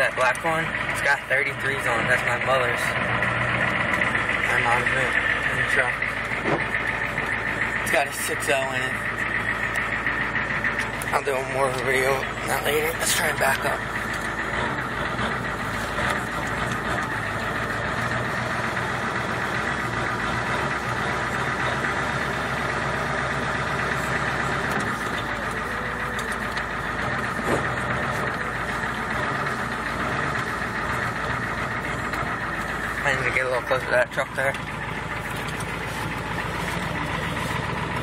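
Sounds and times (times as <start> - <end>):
diesel engine clattering: 0.0 - 38.0.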